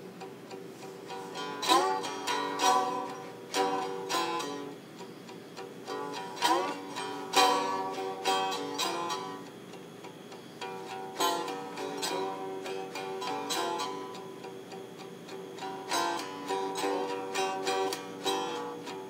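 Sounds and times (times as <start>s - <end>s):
slide stringed instrument: 0.7s - 4.8s, 5.6s - 9.6s, 10.6s - 19.0s.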